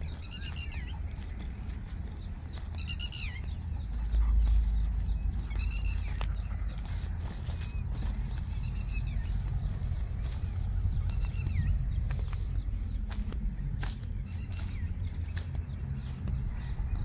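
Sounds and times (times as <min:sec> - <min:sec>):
wind rumble: 0:00.0 - 0:17.0.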